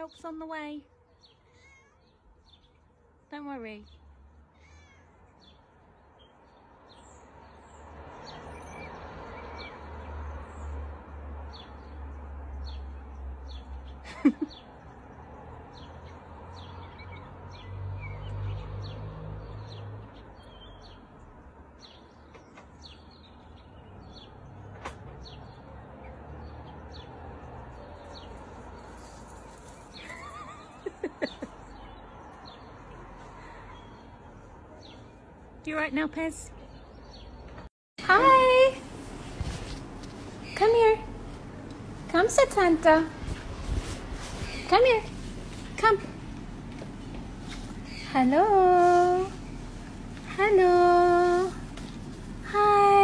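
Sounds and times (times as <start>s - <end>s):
small birds chirping: 0.0s - 38.6s, 39.4s - 53.0s.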